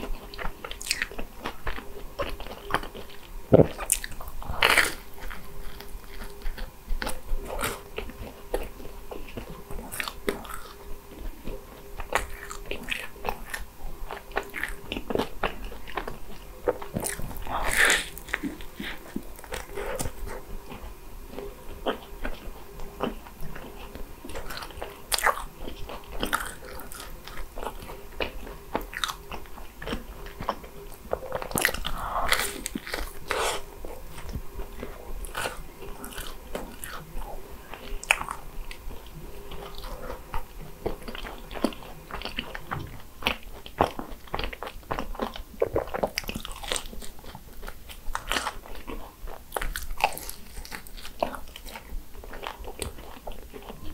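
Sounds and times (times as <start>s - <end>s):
crunchy chewing: 0.0s - 53.9s.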